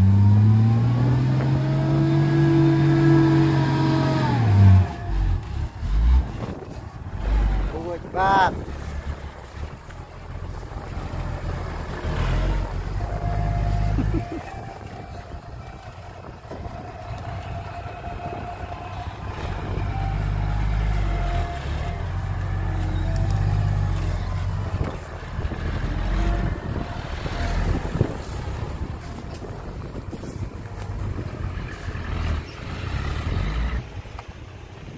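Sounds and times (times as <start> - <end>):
truck diesel engine rumbling: 0.0 - 34.9.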